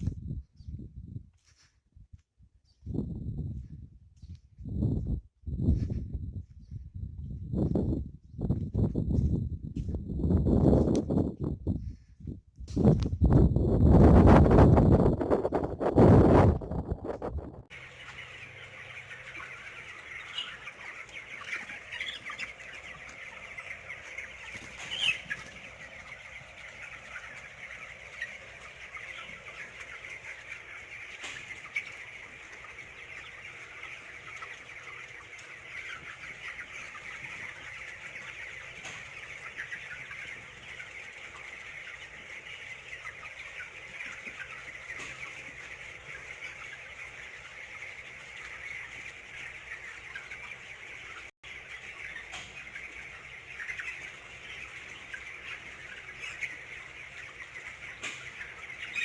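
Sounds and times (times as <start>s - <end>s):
chickens clucking: 2.8s - 59.0s.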